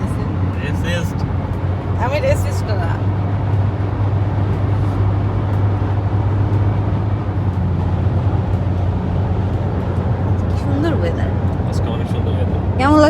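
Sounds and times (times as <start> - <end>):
car cabin road noise: 0.0 - 13.0
constant low drone: 0.0 - 13.0.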